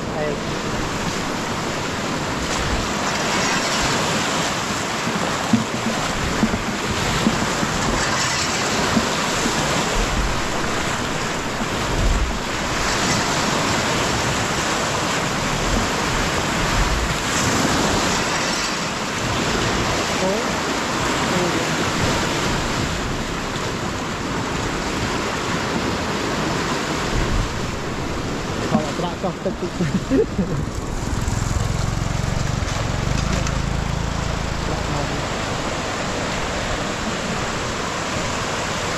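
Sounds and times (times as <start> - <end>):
wind buffeting microphone: 0.0 - 20.6, 21.8 - 38.9
floodwater rushing: 0.0 - 38.9.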